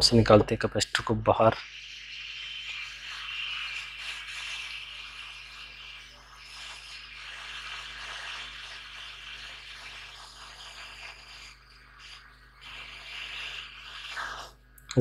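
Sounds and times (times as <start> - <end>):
hot air gun hissing: 0.8 - 15.0.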